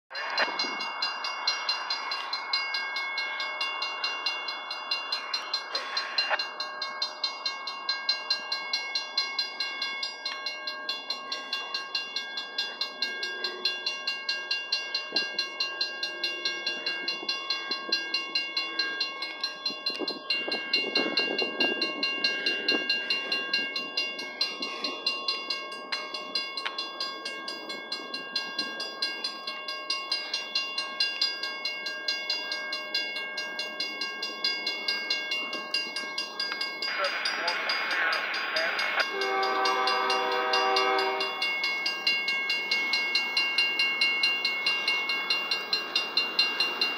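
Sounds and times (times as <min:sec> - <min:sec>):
crossing warning bell ringing: 0:00.1 - 0:46.9.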